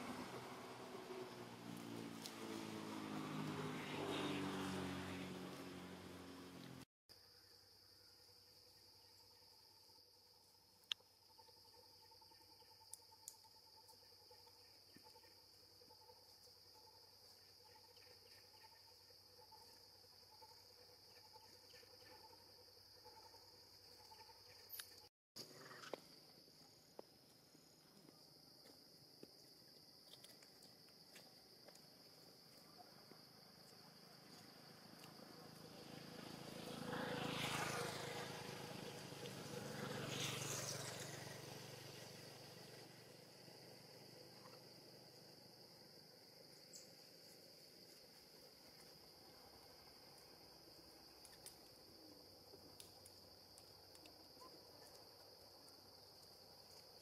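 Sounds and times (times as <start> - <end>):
high drone of insects: 0.0 - 57.0.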